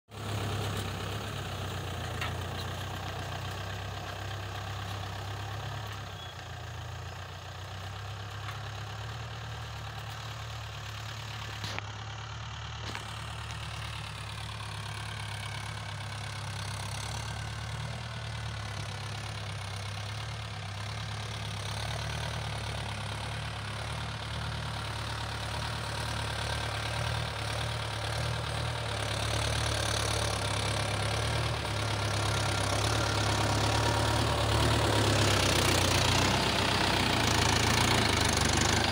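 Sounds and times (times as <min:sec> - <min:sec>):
tractor diesel engine running: 0:00.1 - 0:38.9.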